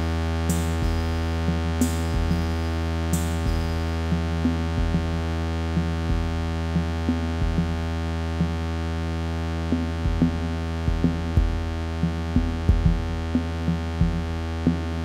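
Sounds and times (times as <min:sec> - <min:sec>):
deep synthesizer drone: 0:00.0 - 0:15.0
short low synth pulses: 0:00.0 - 0:15.0.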